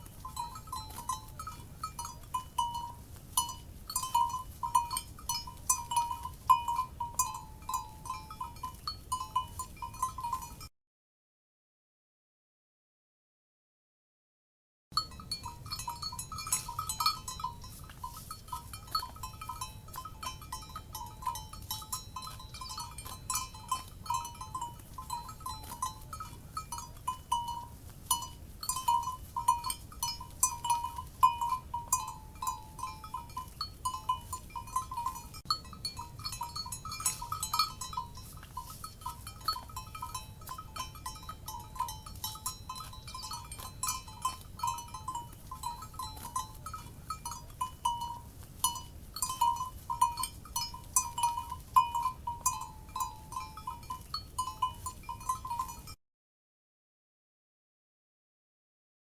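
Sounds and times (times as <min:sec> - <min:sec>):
low steady rumble: 0:00.0 - 0:10.6, 0:15.0 - 0:55.9
cowbells clanking: 0:00.0 - 0:10.7, 0:15.0 - 0:56.0.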